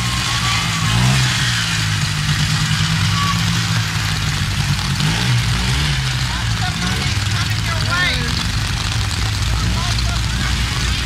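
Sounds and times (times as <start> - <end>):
pickup truck engine: 0.0 - 11.0
quad engine running: 0.0 - 11.0.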